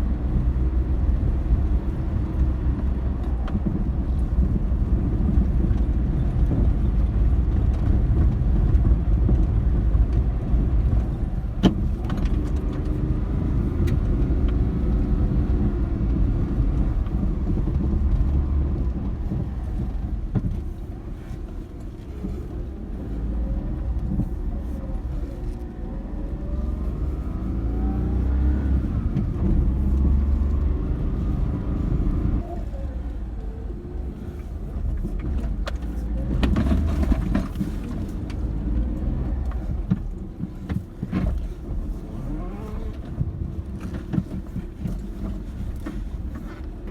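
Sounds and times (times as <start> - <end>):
car engine running: 0.0 - 46.9.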